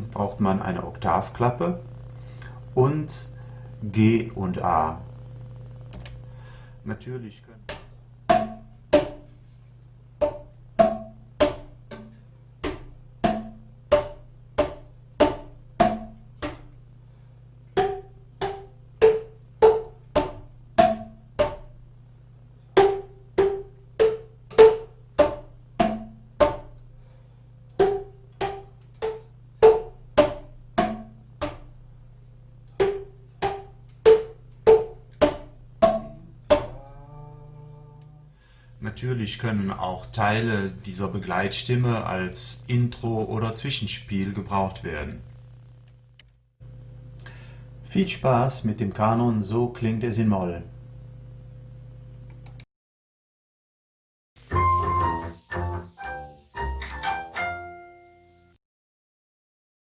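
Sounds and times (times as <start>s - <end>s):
steady low hum: 0.0s - 52.6s.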